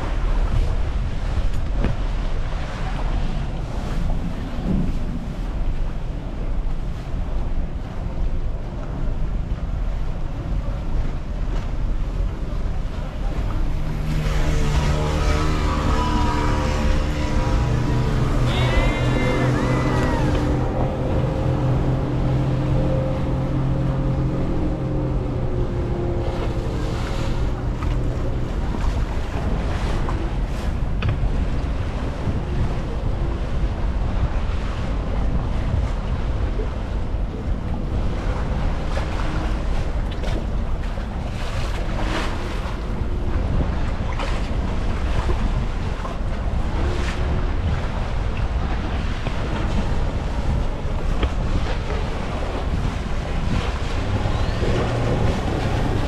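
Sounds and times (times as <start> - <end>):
choppy water splashing: 0.0 - 56.0
steady low rumble: 0.0 - 56.0
wind buffeting microphone: 0.0 - 56.0.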